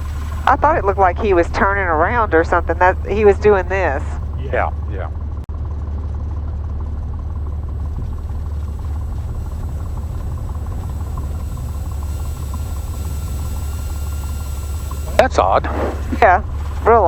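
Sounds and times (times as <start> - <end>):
aircraft engine drone: 0.0 - 17.0.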